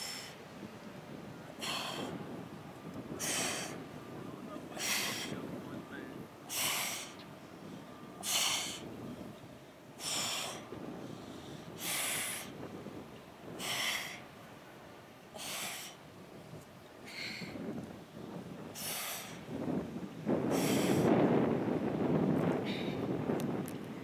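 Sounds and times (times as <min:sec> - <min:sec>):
low background noise: 0:00.0 - 0:20.5.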